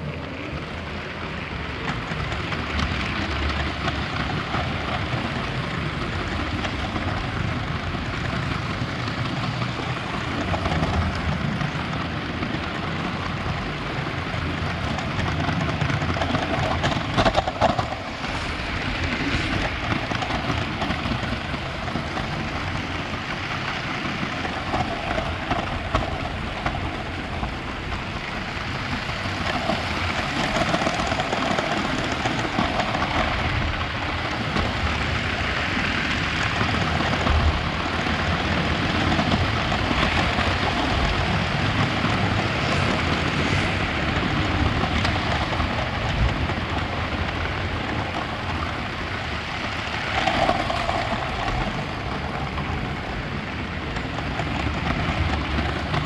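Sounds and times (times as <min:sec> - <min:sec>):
toy train rolling on rails: 0:00.0 - 0:56.0.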